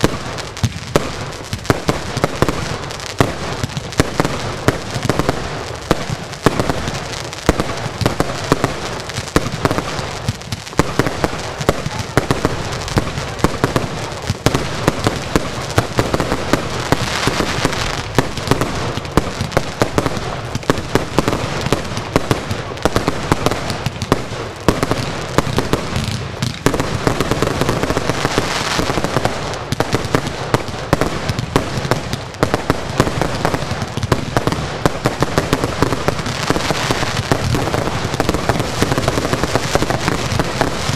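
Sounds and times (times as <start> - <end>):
fireworks bursts and bangs: 0.0 - 40.9
fireworks hissing: 0.0 - 40.9.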